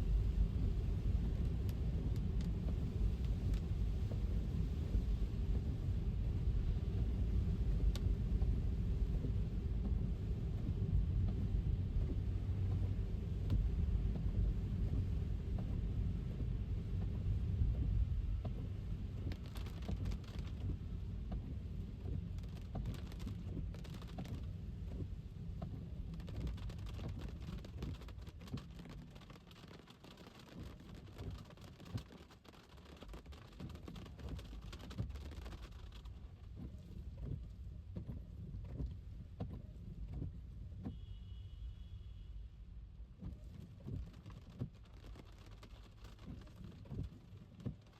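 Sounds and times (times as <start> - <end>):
low road rumble: 0.0 - 47.9
rain: 0.0 - 47.9
raindrop taps: 0.4 - 5.7, 6.6 - 41.0, 43.2 - 47.9.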